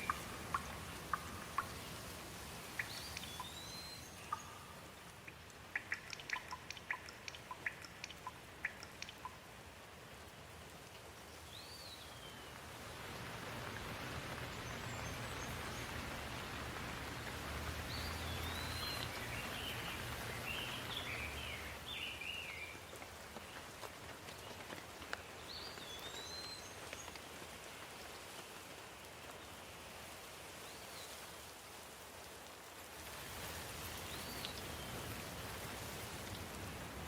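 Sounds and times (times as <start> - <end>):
rain hissing: 0.0 - 37.0.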